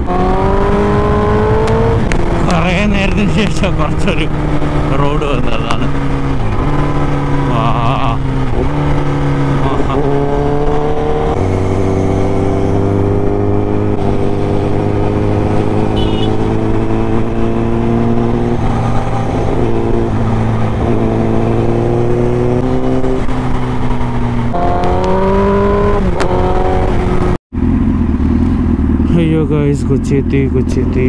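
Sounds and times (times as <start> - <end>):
motorcycle engine at speed: 0.0 - 31.0.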